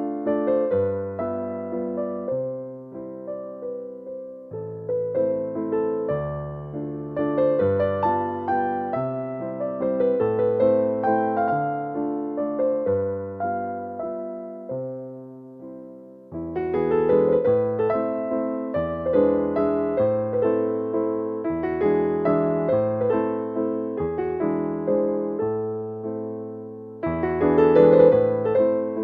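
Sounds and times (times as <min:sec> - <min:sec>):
gentle piano playing: 0:00.0 - 0:29.0.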